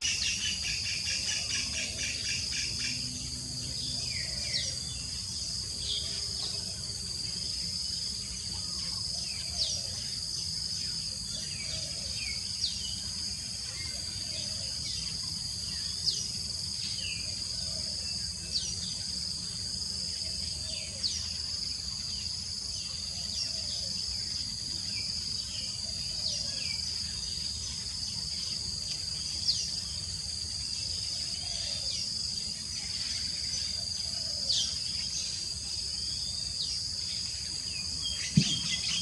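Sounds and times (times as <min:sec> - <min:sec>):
high-pitched insect chorus: 0:00.0 - 0:39.0.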